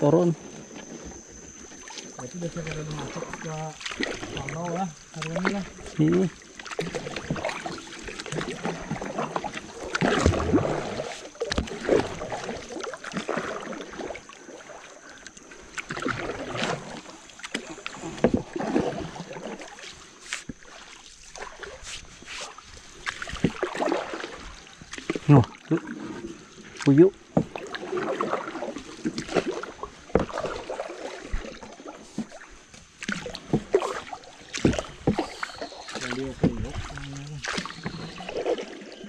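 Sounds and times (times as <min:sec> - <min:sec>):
paddle splashing in water: 0:00.0 - 0:39.0.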